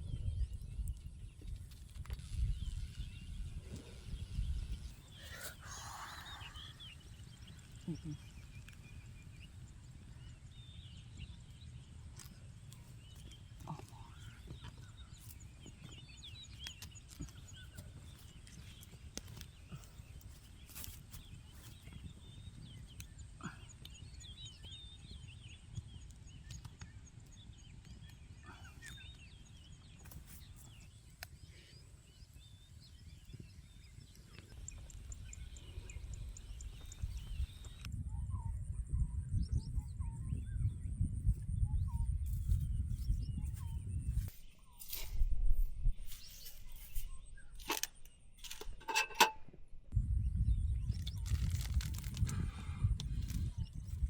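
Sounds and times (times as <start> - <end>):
wild birds chirping: 0.0 - 49.3.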